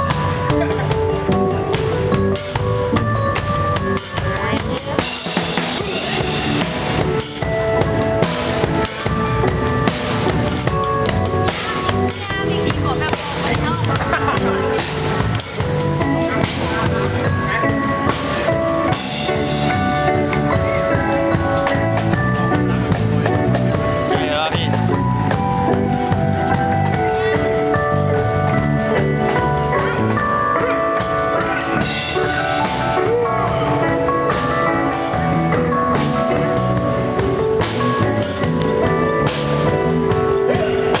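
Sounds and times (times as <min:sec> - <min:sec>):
music with drum beat: 0:00.0 - 0:41.0.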